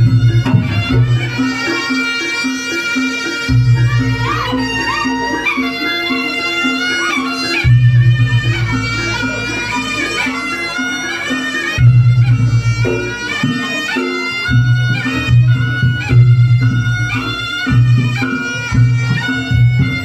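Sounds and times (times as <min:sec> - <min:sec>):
reedy wind instrument melody: 0:00.0 - 0:20.0.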